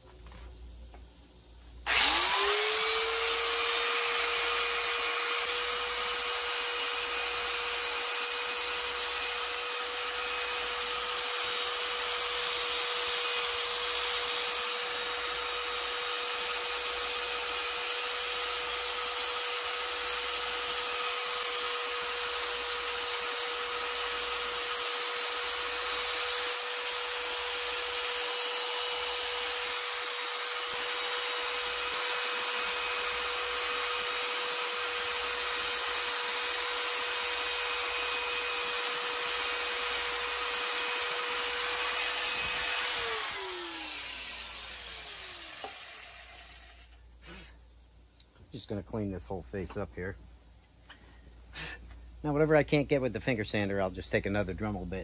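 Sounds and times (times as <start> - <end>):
sander motor winding down: 1.9 - 47.0
belt sander sanding wood: 1.9 - 47.4.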